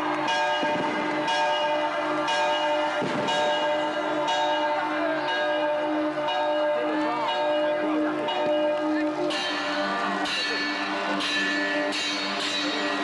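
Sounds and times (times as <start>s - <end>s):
large bell tolling: 0.0s - 13.0s.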